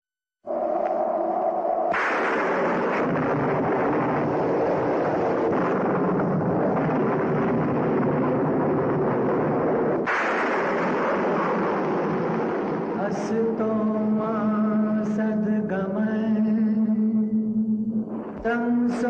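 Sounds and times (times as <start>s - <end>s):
thunder rumble: 0.4s - 19.0s.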